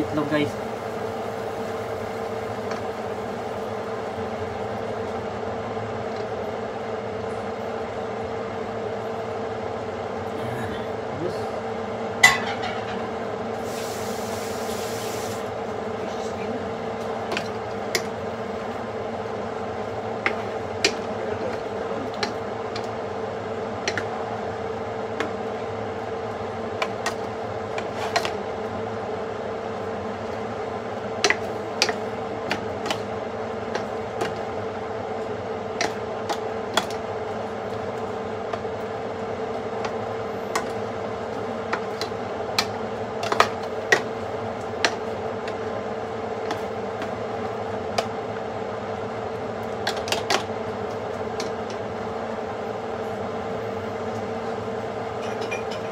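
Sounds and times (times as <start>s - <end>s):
steady mechanical hum: 0.0s - 55.9s.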